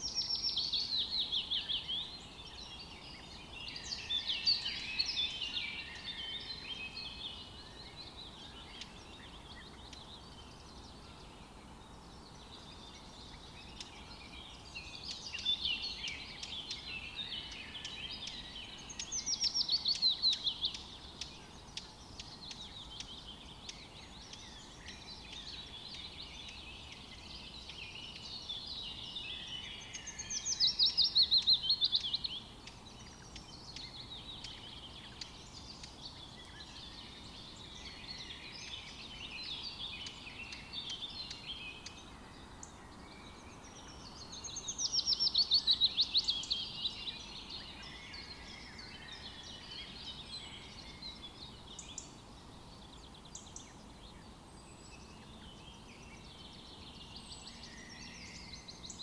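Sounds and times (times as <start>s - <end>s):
faint steady background hiss: 0.0s - 59.0s
songbirds singing: 0.0s - 59.0s.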